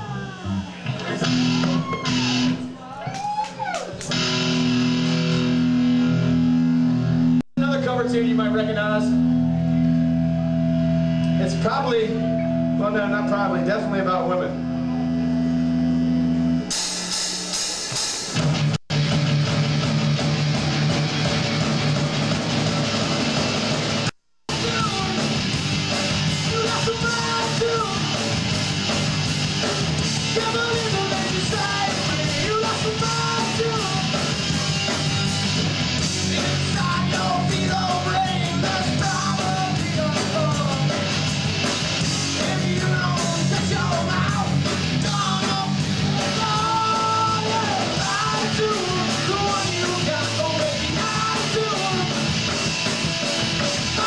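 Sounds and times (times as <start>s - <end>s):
electric guitars: 0.0s - 17.1s, 18.3s - 54.0s
bass guitar: 0.0s - 54.0s
drums: 0.0s - 54.0s.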